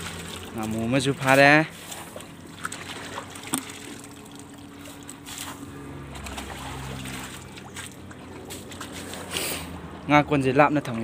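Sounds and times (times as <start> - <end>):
water splashing and dripping: 0.0 - 9.4
low steady hum: 0.0 - 11.0.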